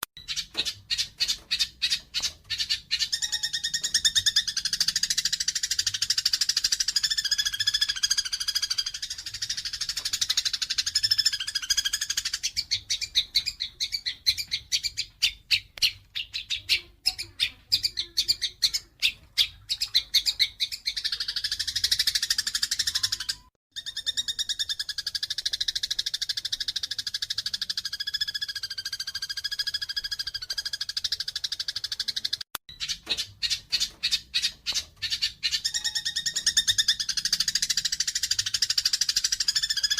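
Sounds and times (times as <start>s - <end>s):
sparrows chattering chirps: 0.1s - 39.9s.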